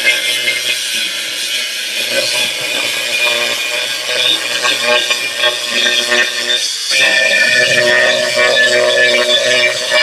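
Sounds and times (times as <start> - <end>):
angle grinder cutting metal: 0.0 - 10.0.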